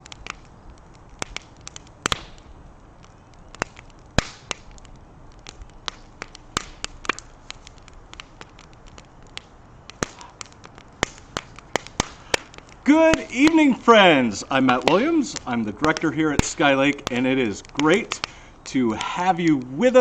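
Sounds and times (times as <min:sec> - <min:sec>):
campfire crackling and popping: 0:00.0 - 0:20.0
faint hiss: 0:00.0 - 0:20.0.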